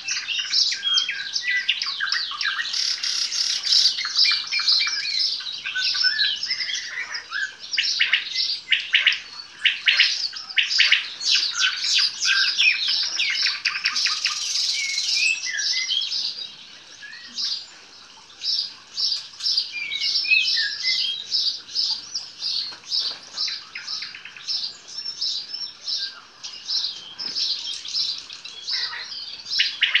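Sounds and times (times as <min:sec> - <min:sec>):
nightingale singing: 0:00.0 - 0:30.0.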